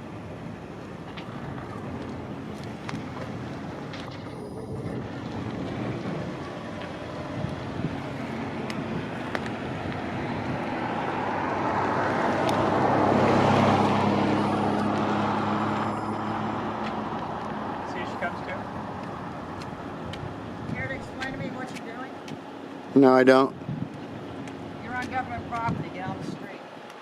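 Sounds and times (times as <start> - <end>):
wind rush on microphone: 0.0 - 21.8, 23.5 - 26.6
vehicle passing by: 0.7 - 26.6.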